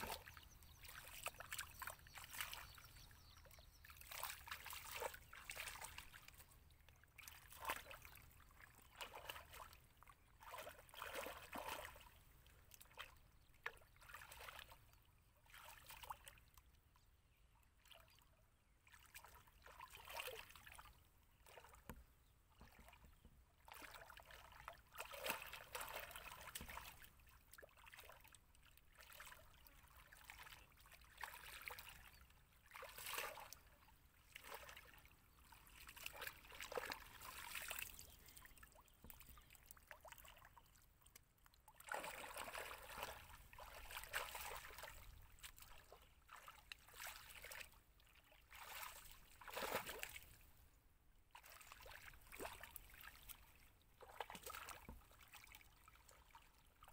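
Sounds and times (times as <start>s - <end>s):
muddy water sloshing: 0.0s - 16.8s, 17.8s - 50.6s, 51.3s - 56.9s.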